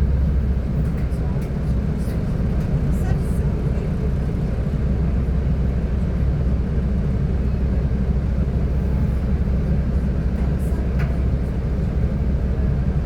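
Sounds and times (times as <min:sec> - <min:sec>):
train engine and wheels rumbling: 0:00.0 - 0:13.0.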